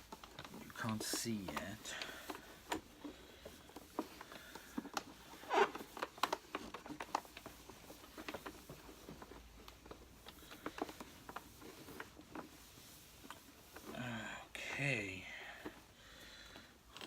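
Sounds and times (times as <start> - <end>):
hands handling plastic: 0.0 - 17.0.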